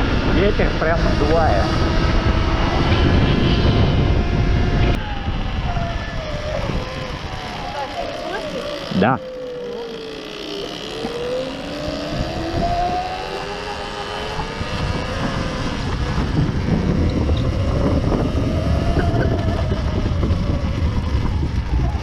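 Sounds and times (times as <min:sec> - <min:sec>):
electric motorbike motor whining: 0:00.0 - 0:22.0
wind buffeting microphone: 0:00.0 - 0:22.0.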